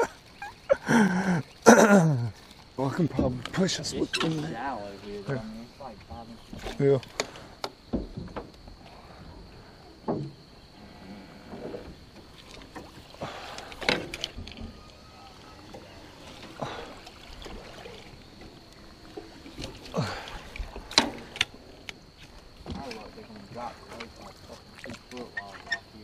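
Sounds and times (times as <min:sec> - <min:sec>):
water swishing and splashing: 0:00.0 - 0:26.0.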